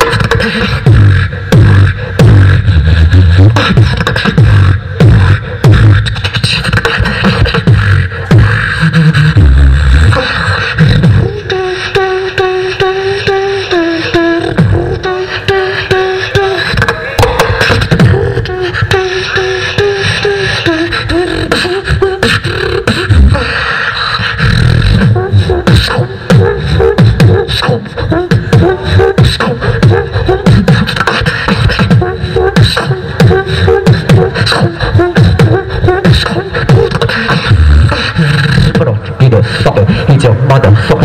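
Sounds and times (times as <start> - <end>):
amplified beatboxing: 0.0 - 41.0
wavering pitched vocal line: 0.0 - 41.0.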